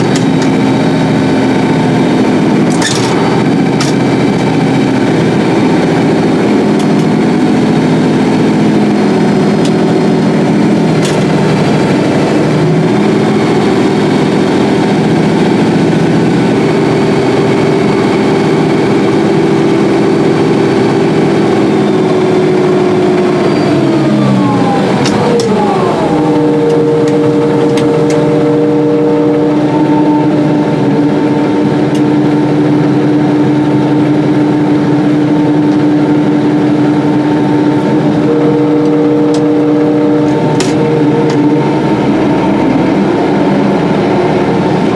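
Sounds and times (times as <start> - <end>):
combine harvester mechanical hum: 0.0 - 44.9.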